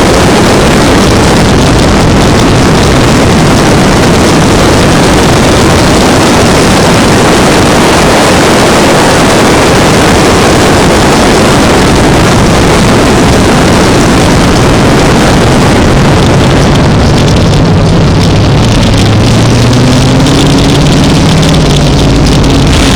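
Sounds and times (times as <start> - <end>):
distorted racing engines roar: 0.0 - 22.9
low engine drone: 0.0 - 22.9.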